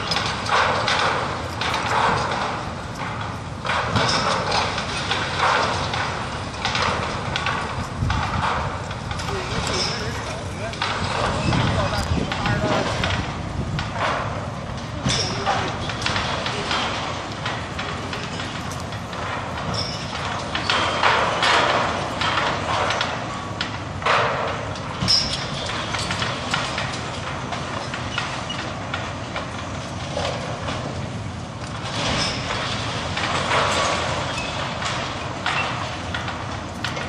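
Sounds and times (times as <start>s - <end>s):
heavy machinery running: 0.0s - 37.0s
metal and masonry clanking: 0.0s - 37.0s.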